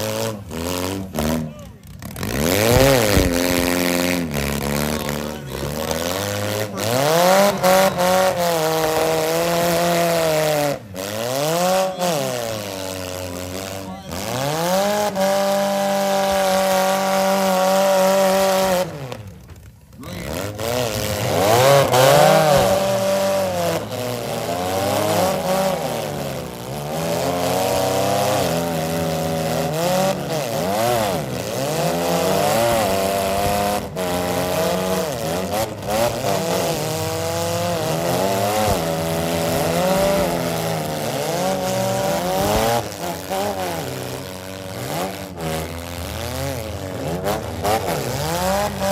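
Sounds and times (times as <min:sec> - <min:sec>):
car engines revving hard: 0:00.0 - 0:48.9
wheels spinning in dirt: 0:00.0 - 0:48.9.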